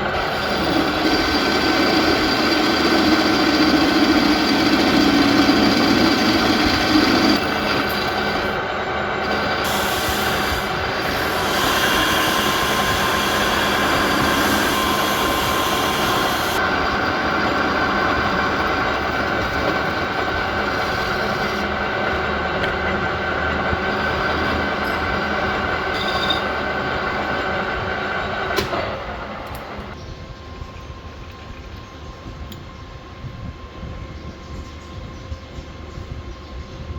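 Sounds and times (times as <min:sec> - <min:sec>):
machine rattling with steady tones: 0:00.0 - 0:36.9.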